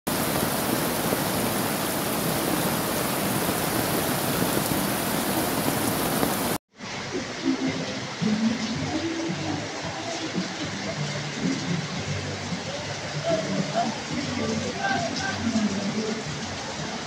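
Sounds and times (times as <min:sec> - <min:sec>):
heavy rain: 0:00.1 - 0:17.0
rushing floodwater: 0:00.1 - 0:17.0.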